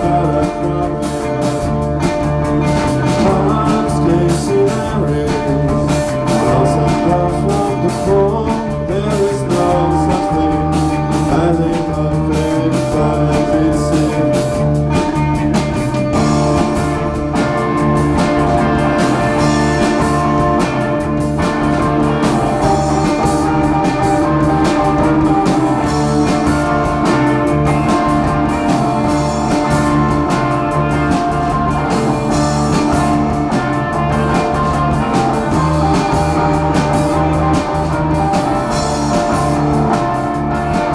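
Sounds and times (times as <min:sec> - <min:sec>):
electric guitar: 0:00.0 - 0:40.9
steady drum beat: 0:00.0 - 0:40.9.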